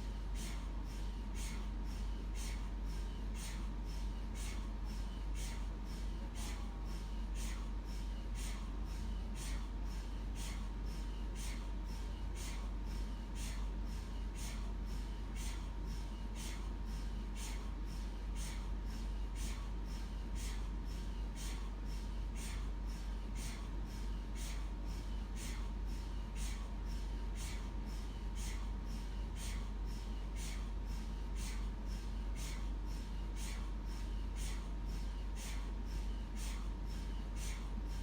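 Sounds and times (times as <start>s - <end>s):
mri gradient coils pulsing: 0.0s - 38.0s.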